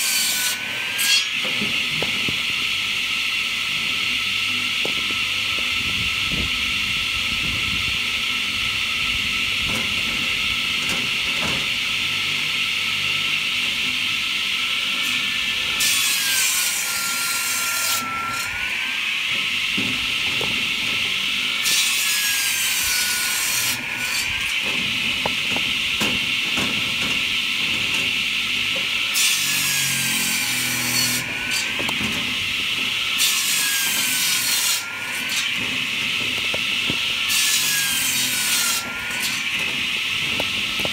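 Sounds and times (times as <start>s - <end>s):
saw rasping through logs: 0.0s - 2.9s, 9.1s - 40.9s.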